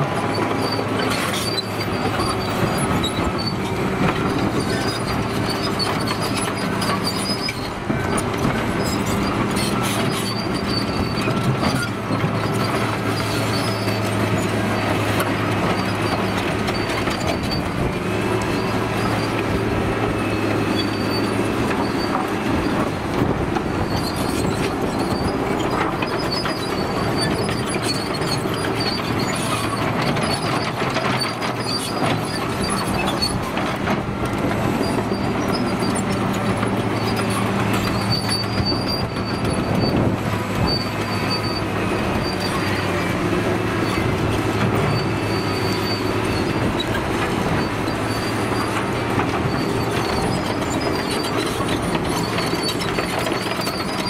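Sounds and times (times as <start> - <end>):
diesel engine under load: 0.0 - 54.0
high squeal of tracks: 0.0 - 54.0.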